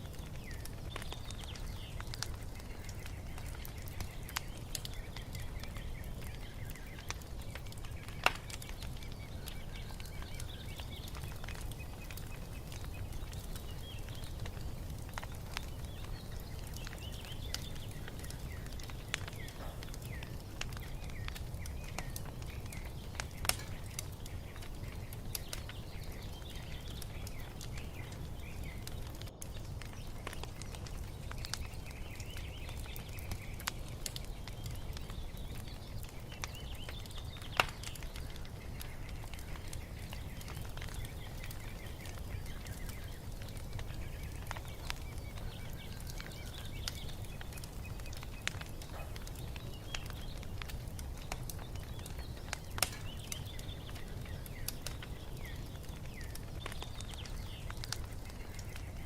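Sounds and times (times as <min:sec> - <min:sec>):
faint birds chirping: 0:00.0 - 0:59.0
wood fire crackling and popping: 0:00.0 - 0:59.0.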